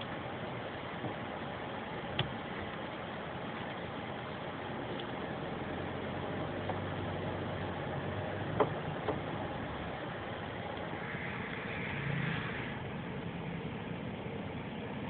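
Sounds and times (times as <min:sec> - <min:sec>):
car engine and tyres at low speed: 0:00.0 - 0:15.0.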